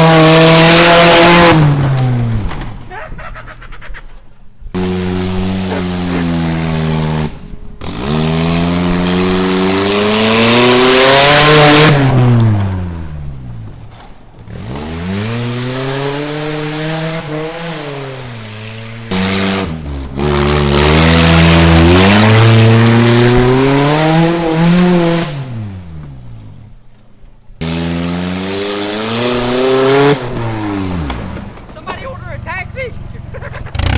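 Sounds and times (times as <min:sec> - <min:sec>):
car engine revving: 0:00.0 - 0:02.9, 0:04.7 - 0:27.0, 0:27.6 - 0:33.9.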